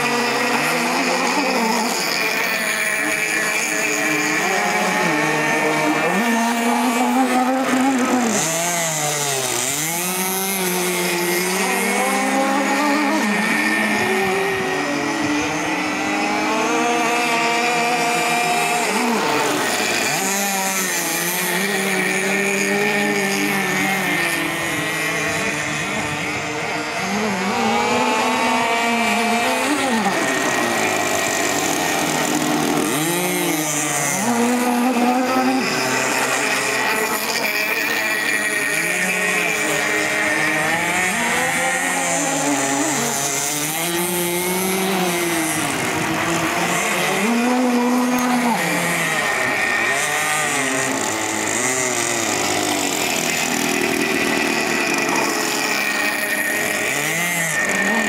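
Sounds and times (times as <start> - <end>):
model boat engine revving: 0.0 - 58.0.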